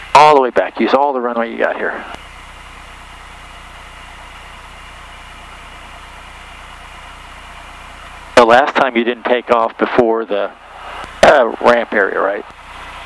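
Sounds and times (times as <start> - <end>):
aircraft piston engine humming: 0.0 - 13.0.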